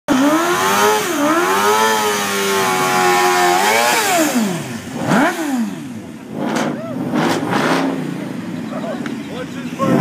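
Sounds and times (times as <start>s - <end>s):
motorcycle engine revving high: 0.1s - 10.0s.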